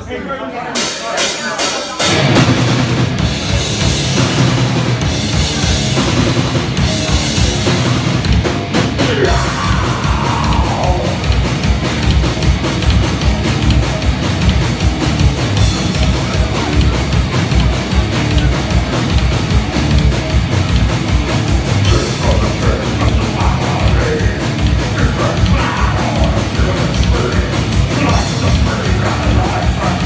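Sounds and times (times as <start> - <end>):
heavy metal band playing: 0.7 - 30.0
bass drum: 2.1 - 30.0.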